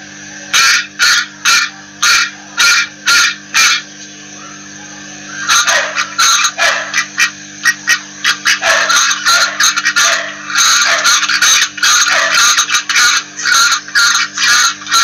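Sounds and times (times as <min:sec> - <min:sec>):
steady low hum: 0:00.0 - 0:15.0
duck quacking: 0:00.5 - 0:03.9, 0:05.3 - 0:15.0.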